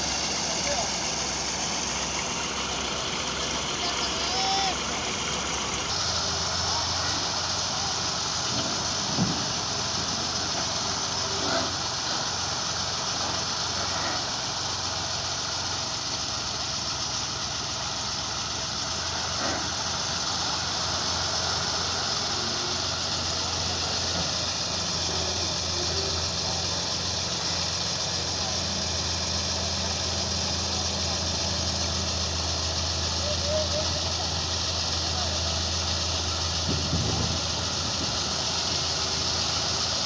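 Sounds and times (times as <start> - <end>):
heavy machinery engine running: 0.0 - 40.0.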